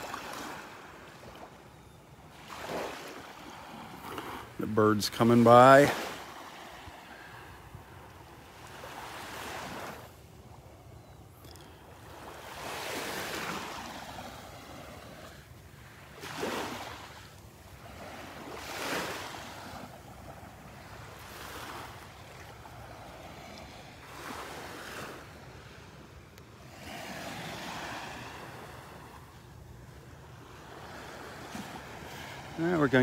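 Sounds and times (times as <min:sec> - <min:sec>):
gentle waves washing on sand: 0:00.0 - 0:33.0.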